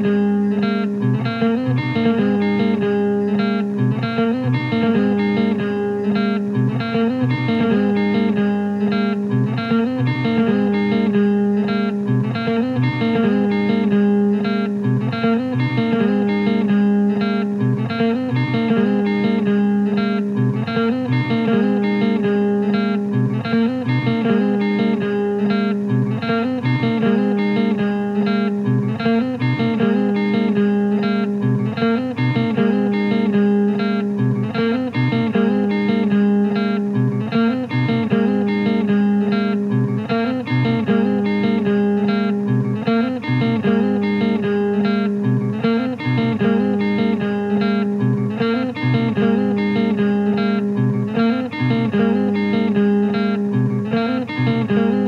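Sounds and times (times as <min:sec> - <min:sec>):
instrumental guitar music: 0:00.0 - 0:55.0.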